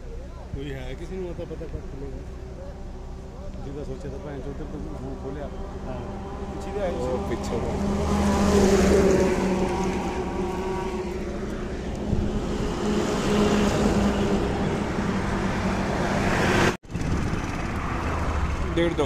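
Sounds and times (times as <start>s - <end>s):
car engine hum: 0.0s - 19.0s
road noise: 0.0s - 19.0s
traffic: 0.0s - 19.0s.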